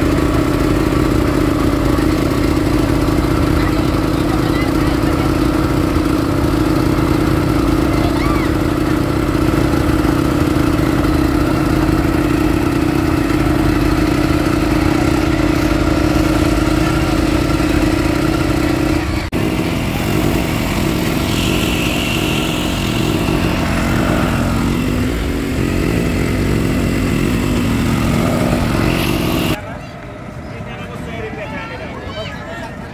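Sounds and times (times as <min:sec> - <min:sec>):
motorboat engine droning: 0:00.0 - 0:32.0.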